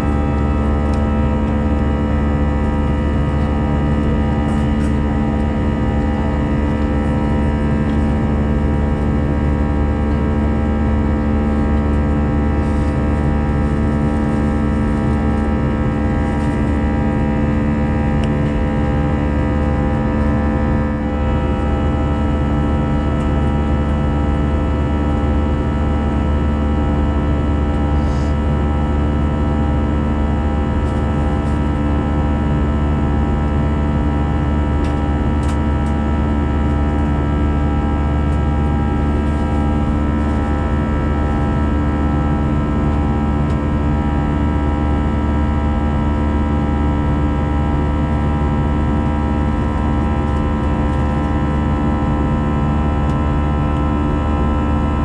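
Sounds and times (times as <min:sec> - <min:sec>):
jet engine and airflow rumble: 0:00.0 - 0:46.0, 0:48.0 - 0:55.0.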